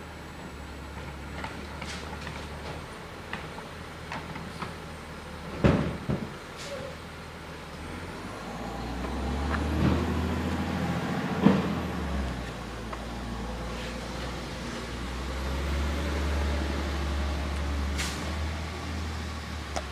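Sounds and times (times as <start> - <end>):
distant diesel engine rumble: 0.0 - 19.9.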